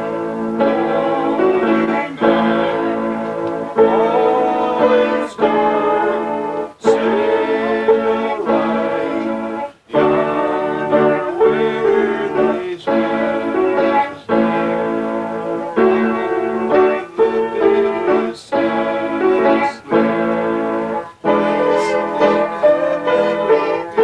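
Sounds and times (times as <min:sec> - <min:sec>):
keyboard playing slow chords: 0:00.0 - 0:24.0.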